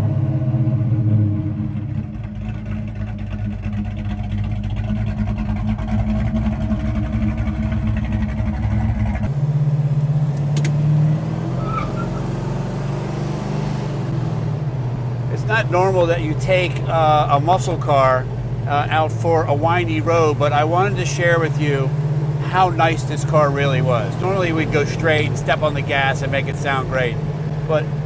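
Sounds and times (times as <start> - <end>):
engine drone inside a car: 0.0 - 28.0
car engine idling: 1.1 - 11.0, 14.4 - 28.0.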